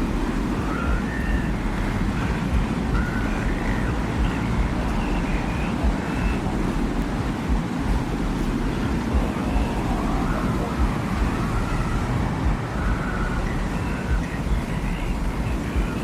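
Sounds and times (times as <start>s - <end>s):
faint wavering whistling tones: 0.0s - 16.0s
low rumbling wind: 0.0s - 16.0s.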